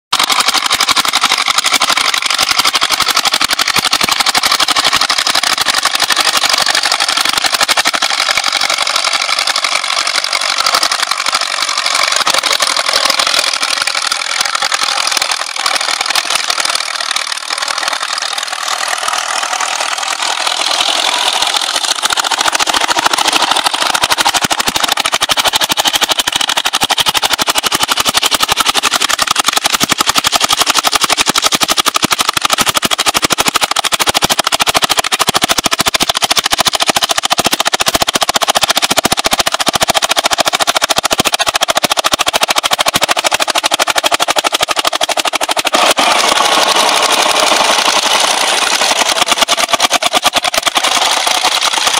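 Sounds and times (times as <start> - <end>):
tractor engine chattering: 0.1 - 51.9.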